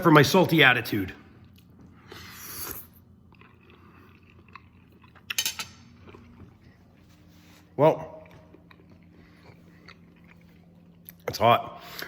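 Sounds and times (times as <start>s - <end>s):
person chewing: 1.4s - 11.2s.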